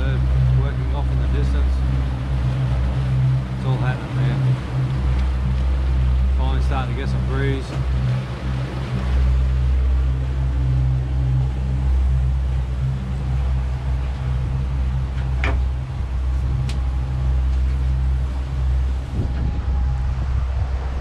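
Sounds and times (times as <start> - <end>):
boat motors droning: 0.0 - 21.0
wind and water hiss: 0.0 - 21.0.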